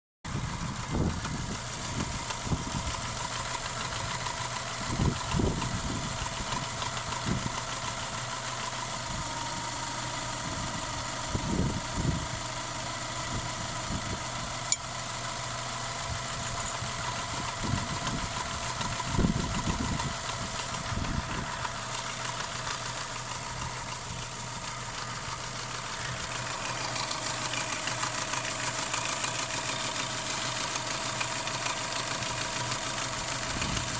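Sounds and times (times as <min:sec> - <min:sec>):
car engine idling: 0:00.3 - 0:33.9
engine knocking: 0:00.3 - 0:33.9.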